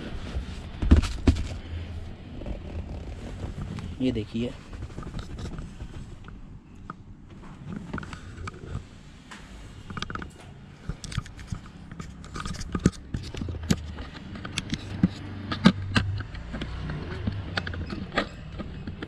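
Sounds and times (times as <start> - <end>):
low steady hum: 0.0 - 19.0
handling noise clicks and scraping: 0.1 - 19.0.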